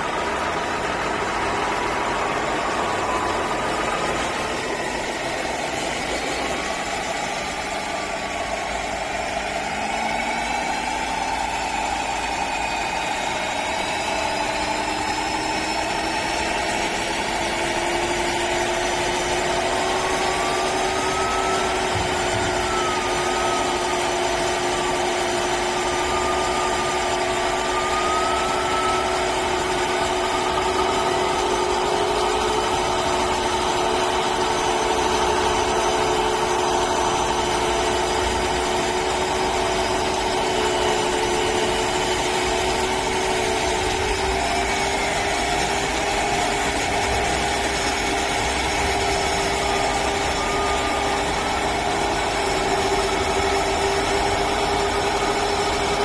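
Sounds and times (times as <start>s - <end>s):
simulated diesel engine from speaker: 0.0s - 56.0s.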